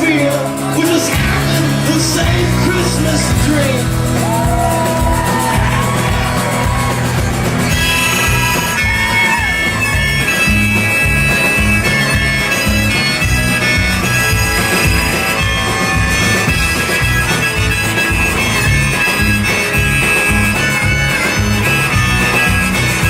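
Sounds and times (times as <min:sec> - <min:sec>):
bending lead guitar line: 0:00.0 - 0:23.0
live band bass and drums: 0:00.0 - 0:23.0
blues harmonica solo: 0:00.4 - 0:23.0.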